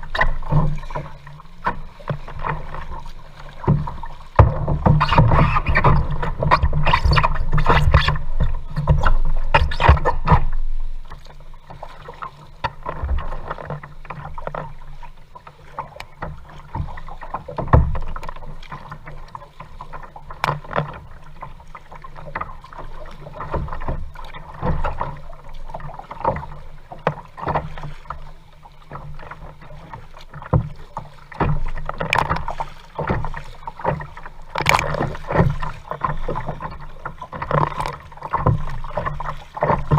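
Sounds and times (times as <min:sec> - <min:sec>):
paddle splashing water: 0:00.0 - 0:39.9.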